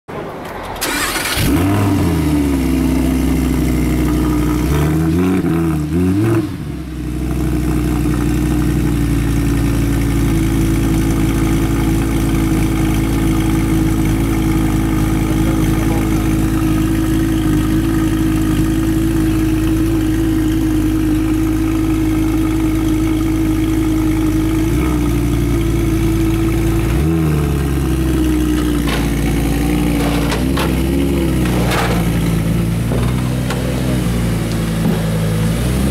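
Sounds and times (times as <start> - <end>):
car engine idling: 0.7 - 35.9.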